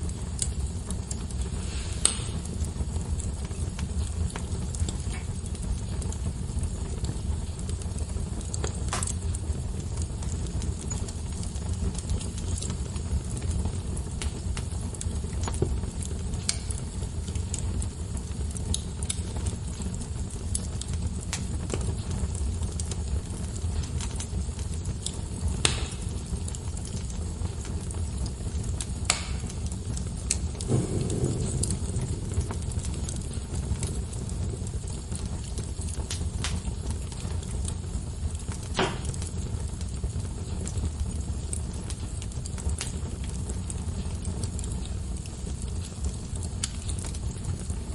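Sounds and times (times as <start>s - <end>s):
fire crackling and popping: 0.0s - 47.9s
wood fire rumbling: 0.0s - 47.9s.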